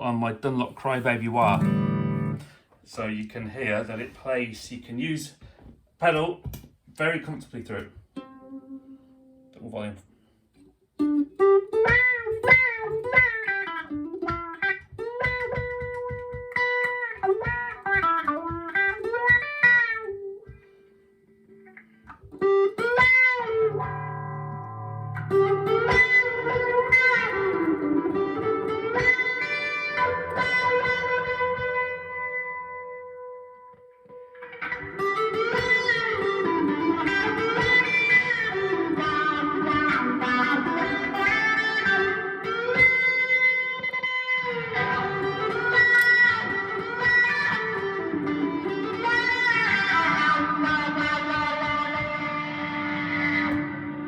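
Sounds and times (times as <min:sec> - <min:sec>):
electric guitar with wah pedal: 0:01.2 - 0:02.6, 0:11.0 - 0:54.0.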